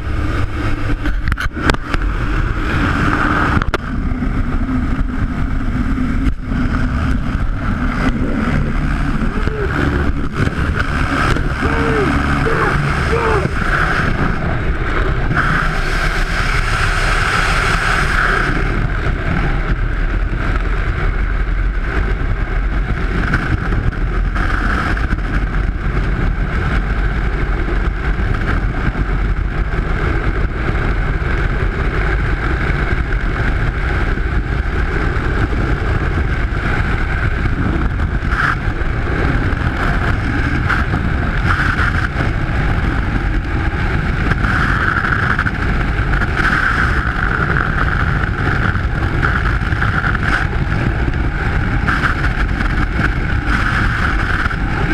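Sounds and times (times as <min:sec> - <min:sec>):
high wind whistling: 0:00.0 - 0:54.9
wind rushing over microphone: 0:00.0 - 0:54.9.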